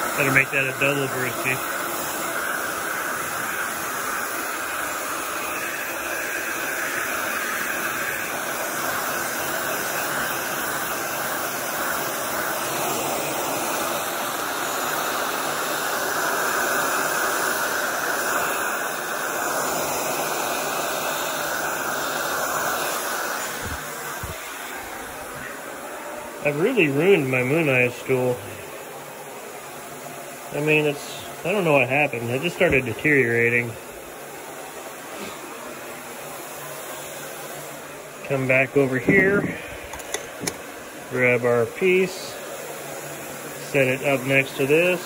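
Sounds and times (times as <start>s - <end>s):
heat gun blowing: 0.0s - 45.0s.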